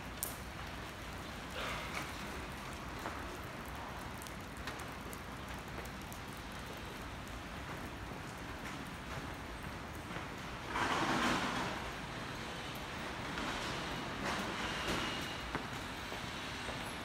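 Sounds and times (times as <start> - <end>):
light rain on wet street: 0.0 - 17.0
footsteps on wet pavement: 0.1 - 17.0.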